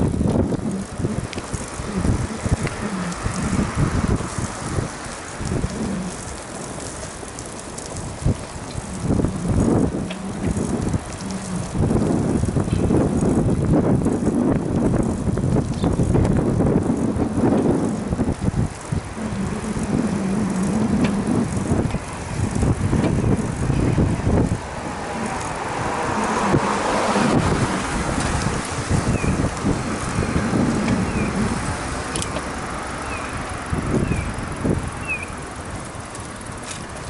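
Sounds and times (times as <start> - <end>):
tyre and road rumble: 0.0 - 37.0
wind buffeting microphone: 0.0 - 37.0.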